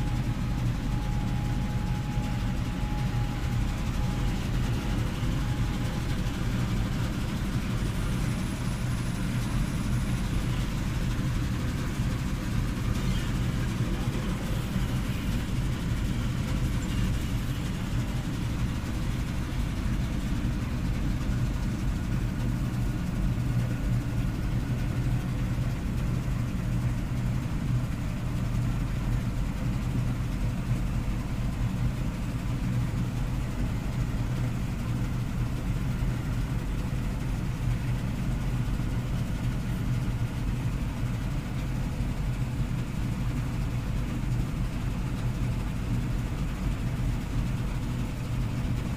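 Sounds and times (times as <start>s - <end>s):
combine harvester engine drone: 0.0s - 48.9s.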